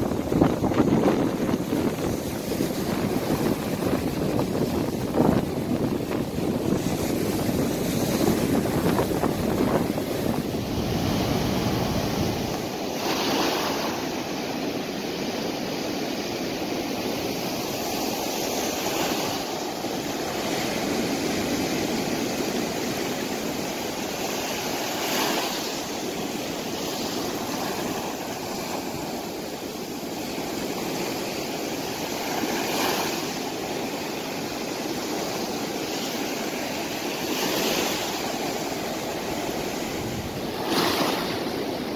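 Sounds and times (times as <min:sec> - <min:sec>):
surf washing over gravel beach: 0:00.0 - 0:41.9
wind buffeting microphone: 0:00.0 - 0:41.9.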